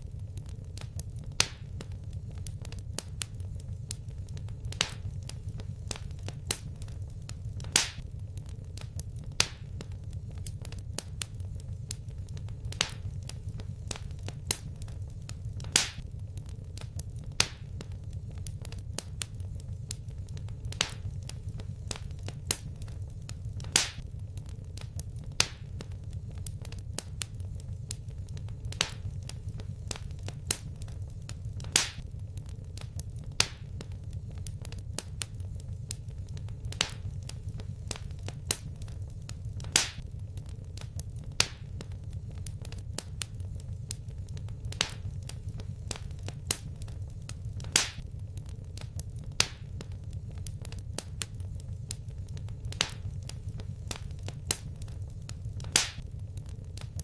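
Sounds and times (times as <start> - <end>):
sharp pops and snaps: 0.0 - 57.0
wood fire crackling: 0.0 - 57.0.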